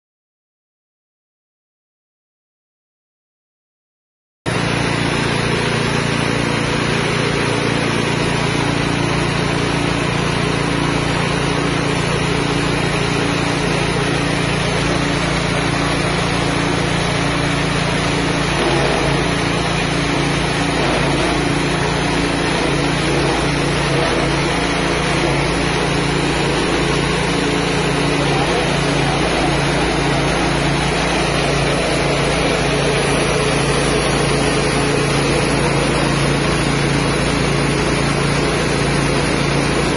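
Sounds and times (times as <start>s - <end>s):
rice milling machine engine running: 4.5s - 39.9s.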